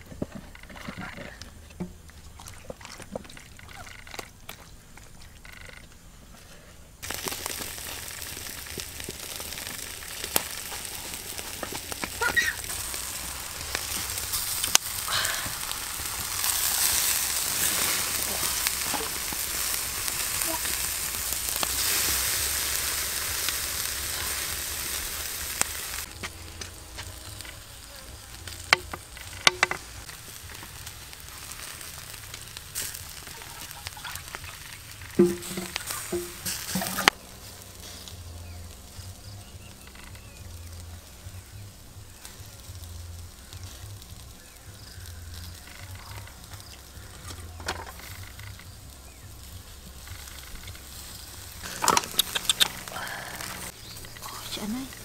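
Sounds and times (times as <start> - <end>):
food sizzling in oil: 7.0 - 55.0.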